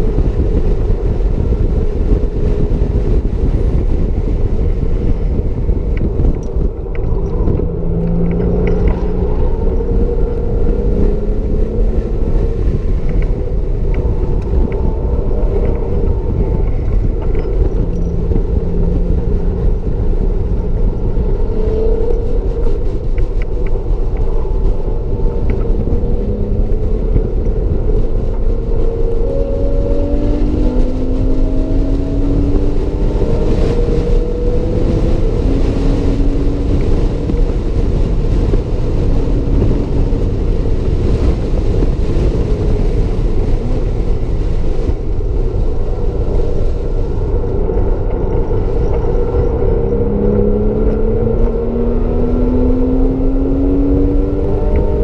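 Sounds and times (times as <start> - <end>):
car engine revving: 0.0 - 55.0
steady low noise: 0.0 - 55.0.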